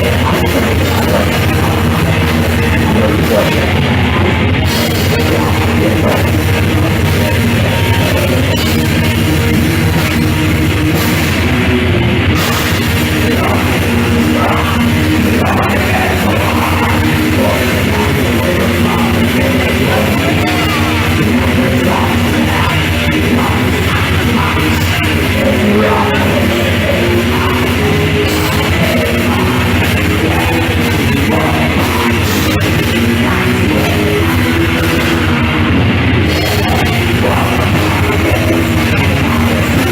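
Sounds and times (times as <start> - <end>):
drum kit: 0.0 - 39.9
guitars: 0.0 - 39.9
metal band playing live: 0.0 - 39.9.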